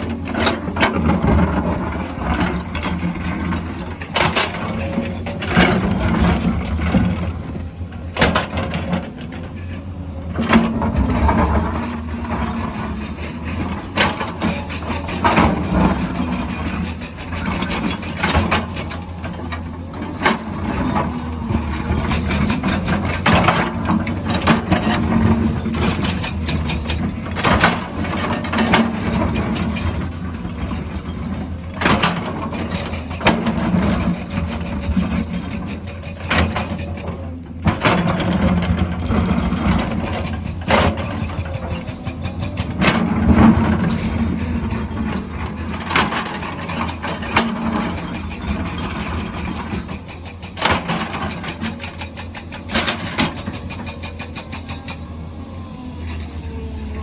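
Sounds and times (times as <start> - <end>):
diesel engine drone: 0.0 - 34.6, 36.3 - 57.0
metal clanks and scrapes: 0.0 - 55.0.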